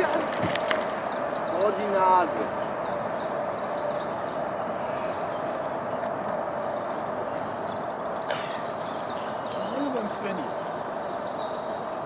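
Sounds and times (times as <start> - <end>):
noisy rumble: 0.0 - 12.0
steady mechanical hum: 0.0 - 12.0.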